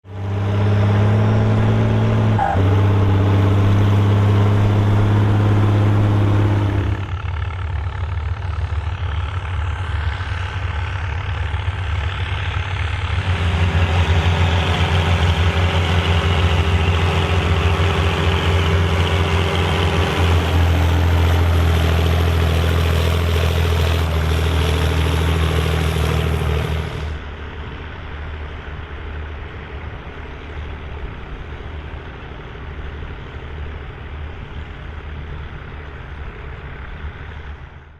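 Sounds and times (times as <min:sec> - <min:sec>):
tractor diesel engines running: 0:00.0 - 0:37.9.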